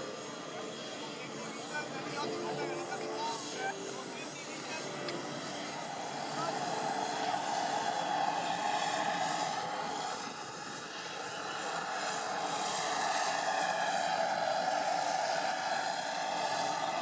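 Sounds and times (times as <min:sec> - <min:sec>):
aircraft engine rushing: 0:00.0 - 0:17.0.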